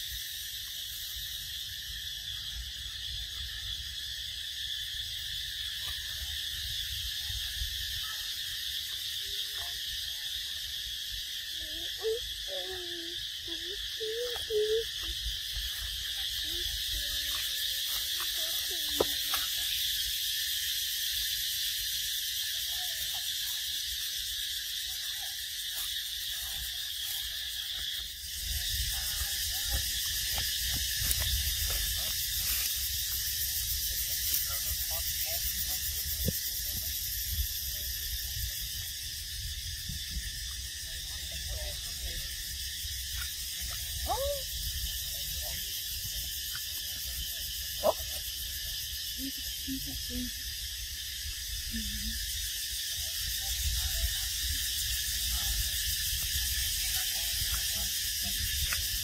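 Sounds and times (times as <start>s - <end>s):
high-pitched insect chorus: 0.0s - 59.0s
short wavering insect calls: 0.0s - 59.0s.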